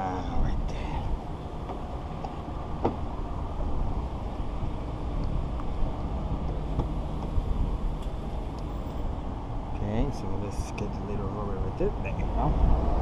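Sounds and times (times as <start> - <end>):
low rumble of vehicle noise: 0.0 - 13.0.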